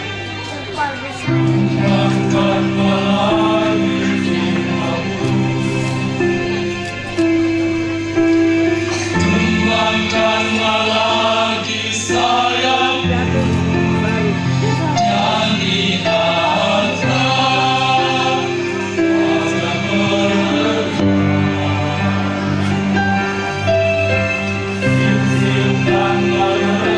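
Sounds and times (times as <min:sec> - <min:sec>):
male choir singing: 0:01.3 - 0:26.9.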